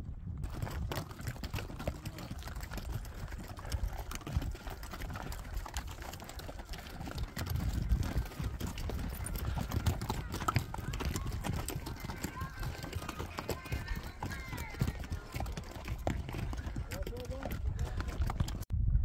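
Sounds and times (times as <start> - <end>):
hooves clopping on stony trail: 0.4 - 18.7.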